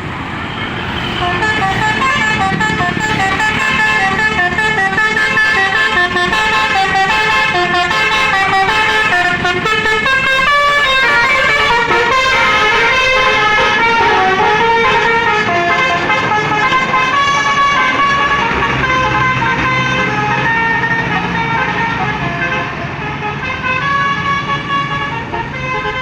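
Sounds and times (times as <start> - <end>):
bus multi-tone horn melody: 0.4 - 26.0.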